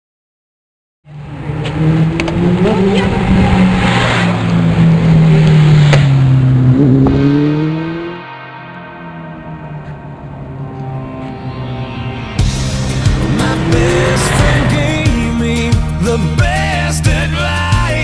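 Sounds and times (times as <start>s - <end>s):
motorcycle engine accelerating: 1.1s - 16.0s.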